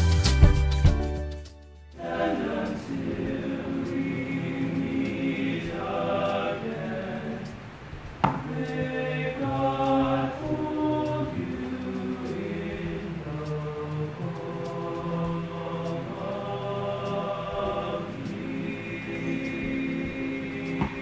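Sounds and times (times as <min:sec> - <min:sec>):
male choir singing in harmony: 0:02.0 - 0:21.0.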